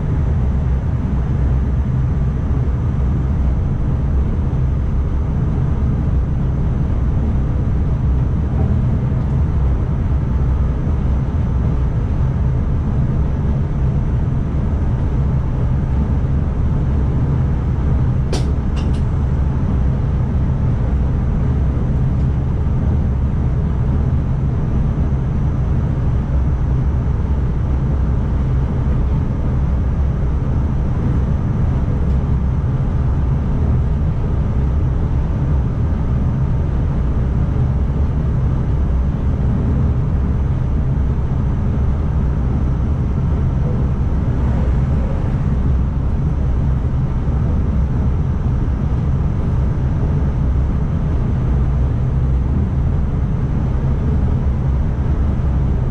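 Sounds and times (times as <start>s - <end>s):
electric train rumble and hum: 0.0s - 55.9s.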